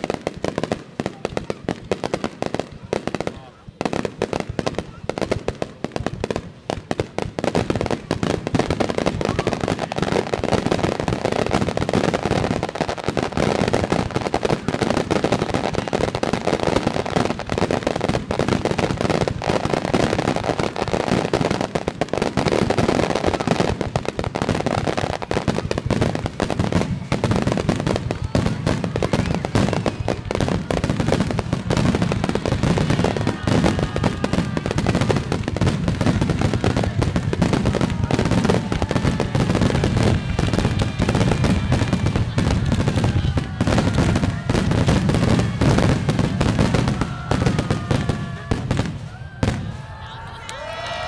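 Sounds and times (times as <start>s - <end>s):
fireworks barrage with crackling: 0.0s - 51.0s.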